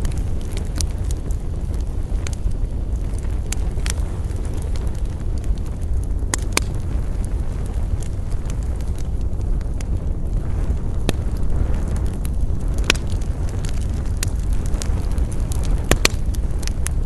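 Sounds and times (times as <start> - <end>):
campfire crackling and popping: 0.0 - 17.0
low rumble: 0.0 - 17.0.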